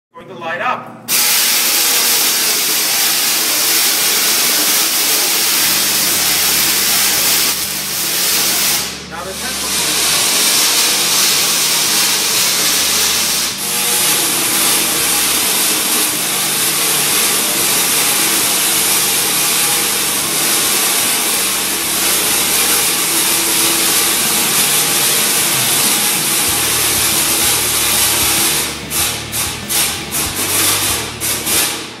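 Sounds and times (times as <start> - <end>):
tesla coil sparks crackling: 1.1 - 32.0.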